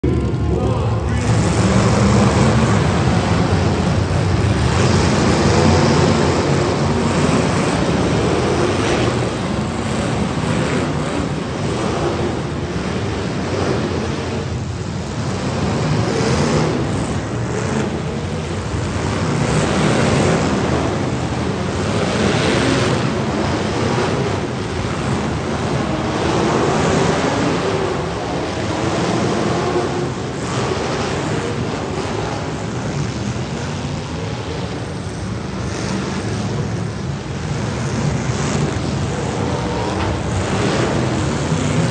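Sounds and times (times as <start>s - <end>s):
car engines revving: 0.0s - 41.9s
crowd noise: 0.0s - 41.9s.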